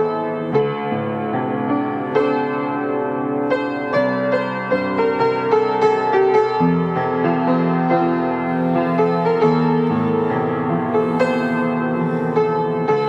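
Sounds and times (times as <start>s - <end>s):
piano playing chords: 0.0s - 13.0s.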